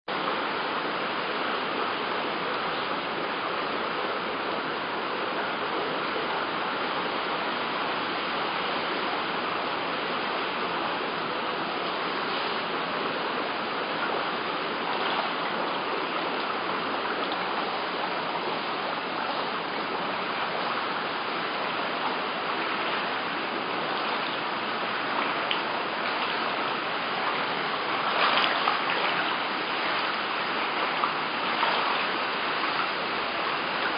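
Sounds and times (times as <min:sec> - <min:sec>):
rushing flood water: 0:00.1 - 0:33.9.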